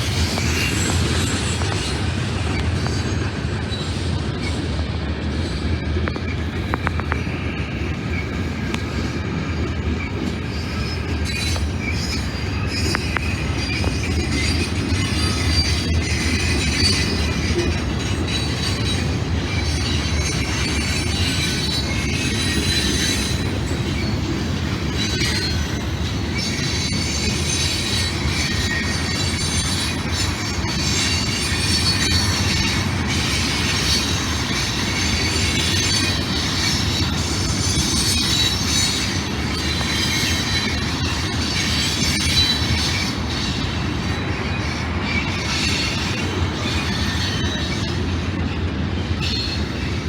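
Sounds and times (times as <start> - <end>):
train cars rumbling past: 0.0 - 50.0
wheels squealing on rails: 0.0 - 50.0.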